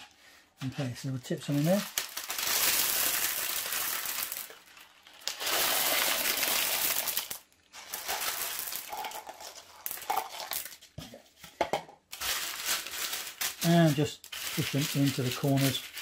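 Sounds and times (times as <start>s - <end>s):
baking paper crinkling: 0.6s - 11.0s, 12.1s - 16.0s
beans rattling as poured: 0.7s - 11.0s, 12.1s - 16.0s
beans clicking: 1.5s - 10.9s, 12.2s - 16.0s.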